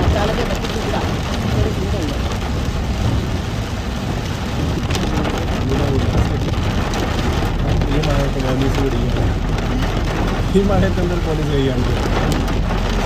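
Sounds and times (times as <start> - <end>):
engine and tyres on wet road: 0.0 - 13.0
heavy rain drumming on car: 0.0 - 13.0.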